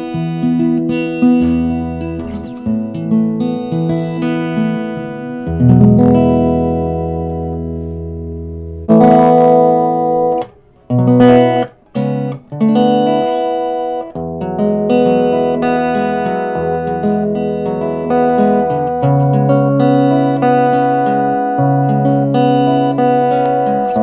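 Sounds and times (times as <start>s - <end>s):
acoustic guitar strumming: 0.0s - 24.0s
fingerpicked guitar notes: 0.0s - 24.0s
muted guitar chords: 0.0s - 24.0s.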